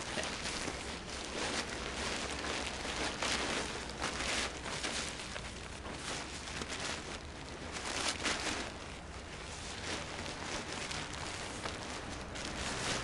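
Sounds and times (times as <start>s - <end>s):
nylon kite canopy rustling: 0.0s - 13.0s.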